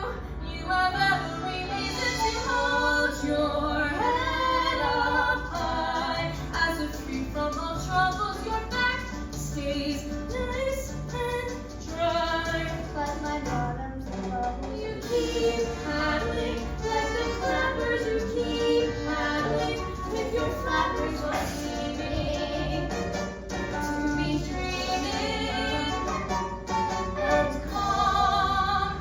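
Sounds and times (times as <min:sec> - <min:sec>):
woman singing: 0:00.0 - 0:26.3
instrumental accompaniment: 0:00.0 - 0:29.0.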